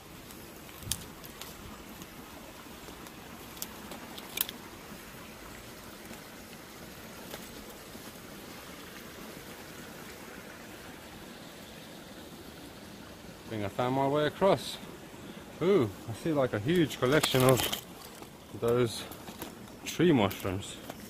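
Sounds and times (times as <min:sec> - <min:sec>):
stream running: 0:00.0 - 0:21.0.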